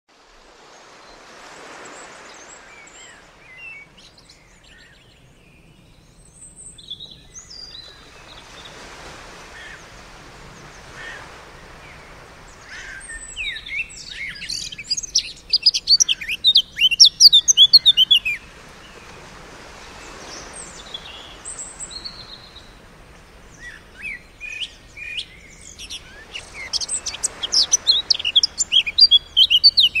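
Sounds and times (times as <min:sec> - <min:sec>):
gentle surf: 0:00.1 - 0:30.0
songbirds chirping and trilling: 0:00.7 - 0:30.0.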